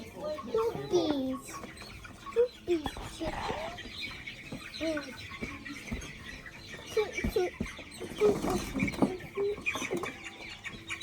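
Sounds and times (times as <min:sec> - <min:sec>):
chicks peeping and clucking: 0:00.0 - 0:11.0.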